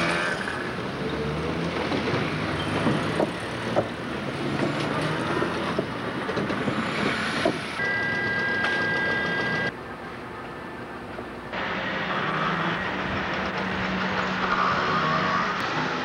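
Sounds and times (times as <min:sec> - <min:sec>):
cars driving: 0:00.0 - 0:09.8, 0:11.4 - 0:16.0.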